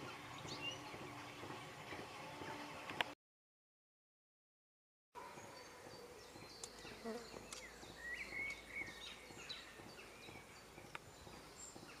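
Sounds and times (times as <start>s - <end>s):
small birds chirping: 0.0s - 3.1s, 5.2s - 12.0s.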